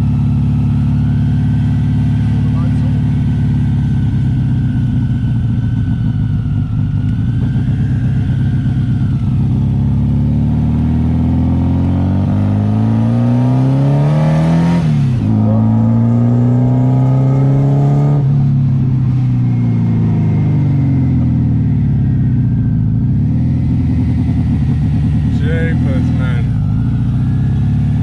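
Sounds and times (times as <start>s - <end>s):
car engine while driving: 0.0s - 28.0s.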